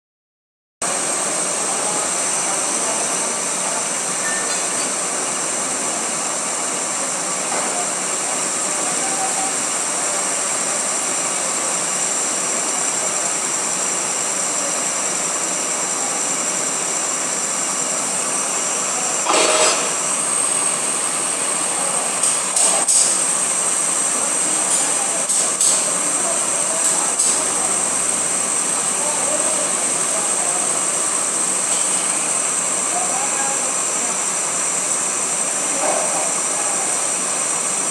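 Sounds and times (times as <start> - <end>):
metal lathe whirring and whining: 0.8 - 37.9.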